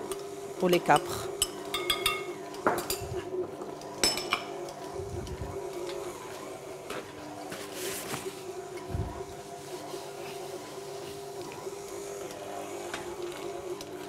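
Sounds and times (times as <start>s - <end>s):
stand mixer running: 0.0s - 7.5s, 8.4s - 14.0s.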